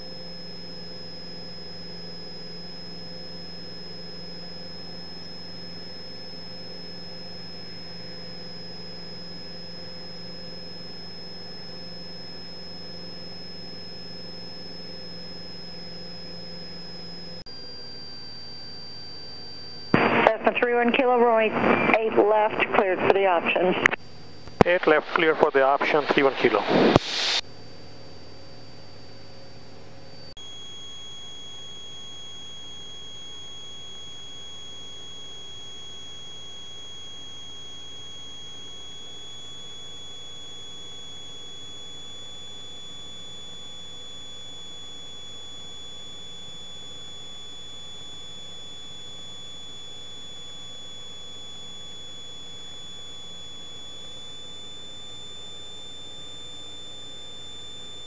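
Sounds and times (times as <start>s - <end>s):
high-pitched electronic whine: 0.0s - 58.0s.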